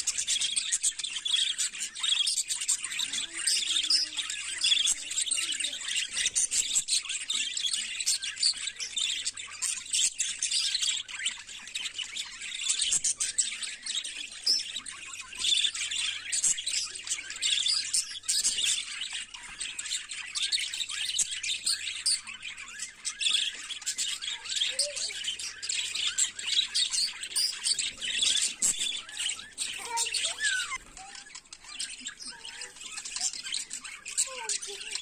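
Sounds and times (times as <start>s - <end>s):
budgerigars chattering: 0.0s - 35.0s.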